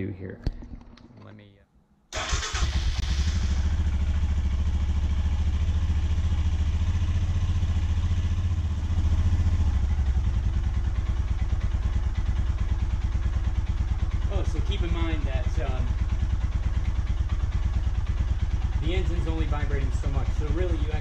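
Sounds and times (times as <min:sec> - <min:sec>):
motorcycle engine idling: 0:02.2 - 0:21.0.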